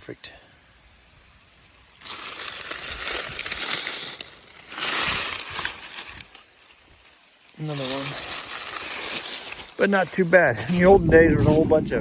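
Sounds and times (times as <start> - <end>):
dry corn stalks rustling: 1.0 - 12.0.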